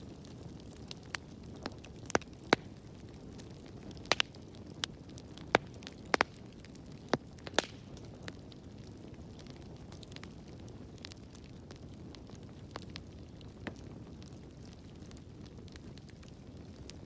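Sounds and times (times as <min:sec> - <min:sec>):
low rush of flames: 0:00.0 - 0:17.0
wood fire crackling: 0:00.0 - 0:17.0.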